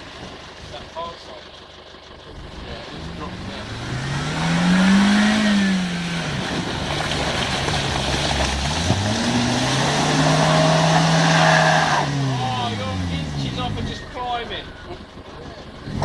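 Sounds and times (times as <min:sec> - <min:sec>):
off-road engine revving: 0:00.0 - 0:16.0.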